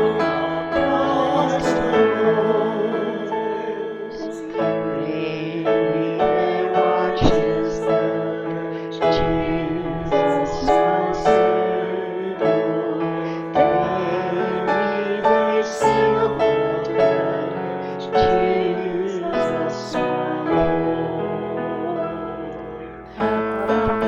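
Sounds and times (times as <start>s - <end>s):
hymn on piano: 0.0s - 24.0s
person singing: 0.0s - 24.0s.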